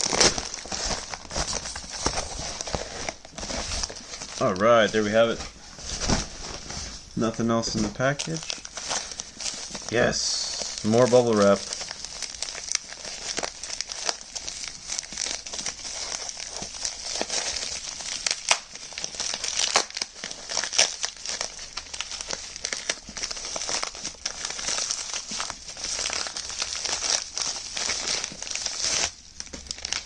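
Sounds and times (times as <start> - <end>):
bubble wrap crinkling: 0.0 - 30.0.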